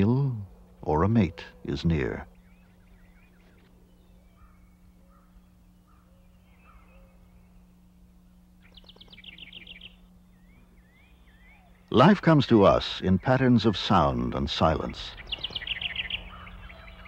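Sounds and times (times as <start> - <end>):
faint birdsong with trills: 0.0 - 17.0
steady low hum: 0.0 - 17.0.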